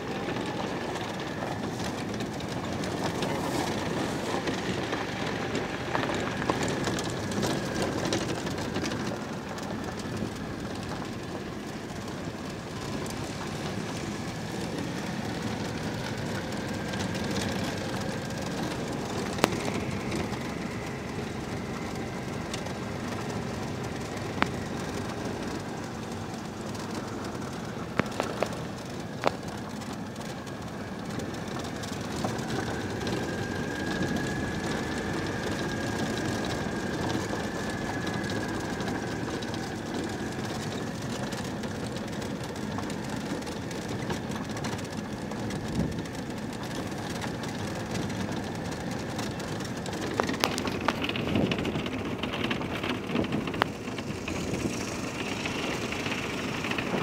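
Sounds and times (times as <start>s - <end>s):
car engine running: 0.0s - 57.0s
road and body noise: 0.0s - 57.0s.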